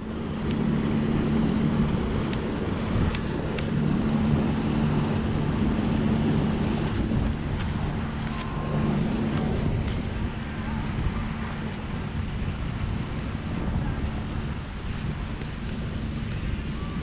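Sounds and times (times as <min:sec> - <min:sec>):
boat engine droning: 0:00.0 - 0:17.0
water rushing around hull: 0:00.0 - 0:17.0.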